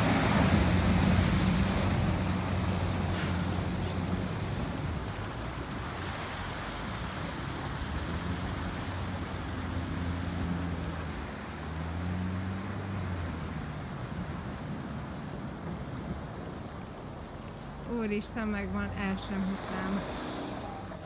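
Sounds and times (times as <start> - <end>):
car engine humming: 0.0 - 21.0
water rushing and splashing: 0.0 - 21.0.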